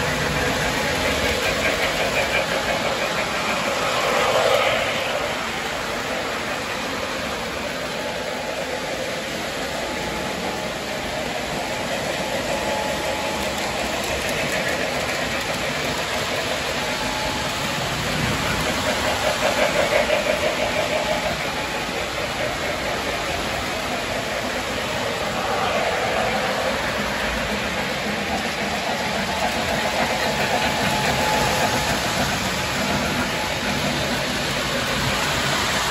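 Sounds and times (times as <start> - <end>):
model trains rolling on metal track: 0.0 - 35.9.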